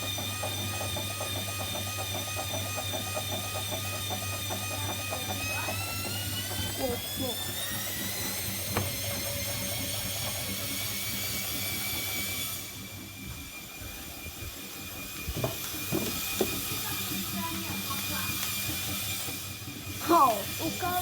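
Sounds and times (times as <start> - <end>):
washing machine motor whine: 0.0 - 21.0.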